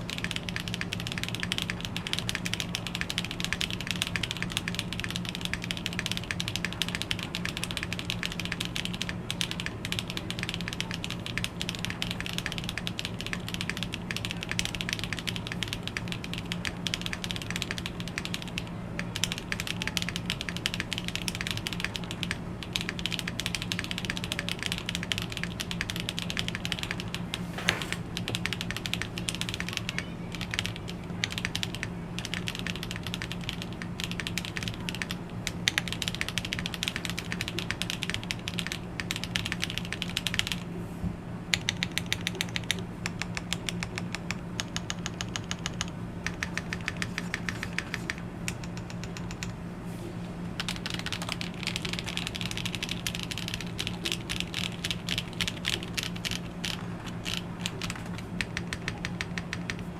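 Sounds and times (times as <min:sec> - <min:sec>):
mechanical keyboard typing: 0:00.0 - 0:40.6, 0:41.5 - 0:49.6, 0:50.6 - 0:59.9.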